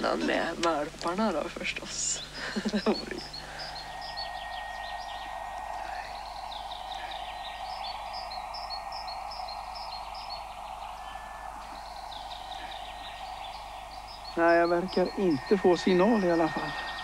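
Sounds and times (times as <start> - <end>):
receiver static hiss: 0.0 - 17.0
small birds chirping: 0.0 - 17.0.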